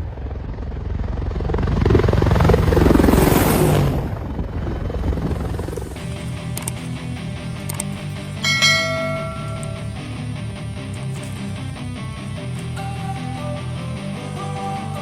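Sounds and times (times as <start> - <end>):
helicopter rotor blades chopping: 0.0 - 12.8.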